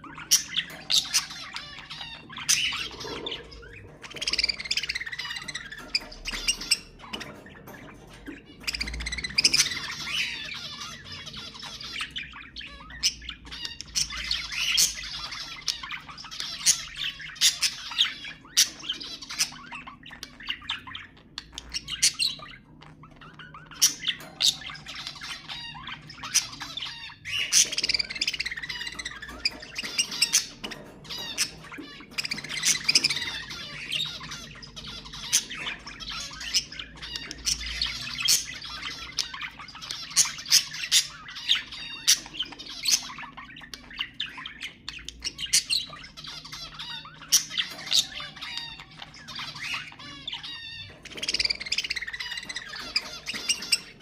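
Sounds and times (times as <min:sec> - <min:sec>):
bird squawks and chirps: 0:00.0 - 0:54.0
budgerigars chattering: 0:00.0 - 0:54.0.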